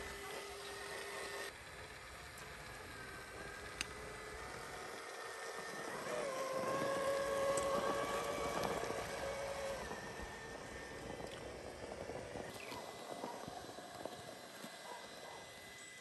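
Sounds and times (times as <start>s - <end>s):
electric motor and gearbox whining: 0.0s - 16.0s.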